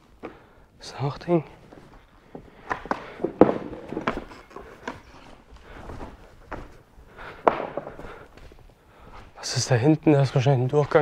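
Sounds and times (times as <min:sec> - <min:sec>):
footsteps crunching on rubble: 0:00.0 - 0:11.0.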